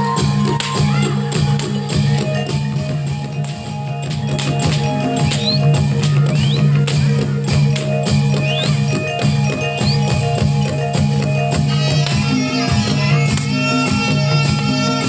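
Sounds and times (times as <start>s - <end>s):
drum strokes: 0.0s - 15.0s.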